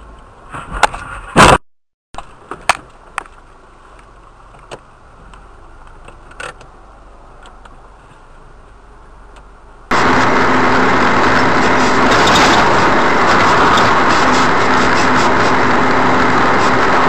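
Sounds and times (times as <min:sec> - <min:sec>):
car engine and road noise: 0:00.0 - 0:01.6, 0:02.2 - 0:17.0
faint vehicle hum: 0:02.2 - 0:17.0.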